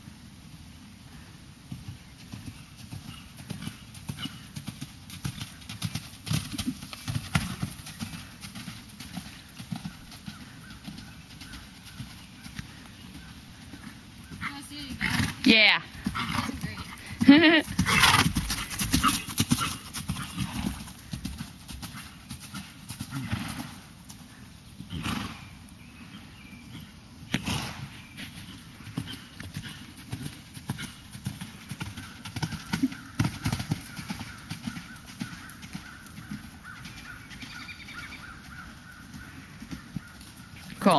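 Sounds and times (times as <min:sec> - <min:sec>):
horse hoofbeats on sand: 0:01.7 - 0:25.1, 0:26.8 - 0:40.9.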